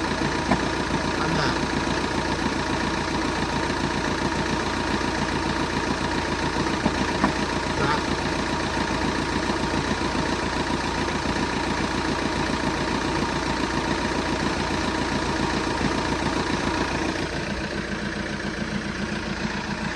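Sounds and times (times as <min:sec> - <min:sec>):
engine knocking: 0:00.0 - 0:19.9
vehicle engine idling: 0:00.0 - 0:19.9.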